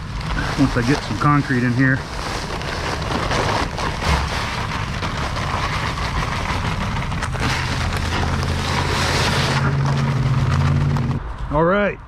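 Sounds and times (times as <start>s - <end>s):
dry concrete mix pouring: 0.0s - 11.2s.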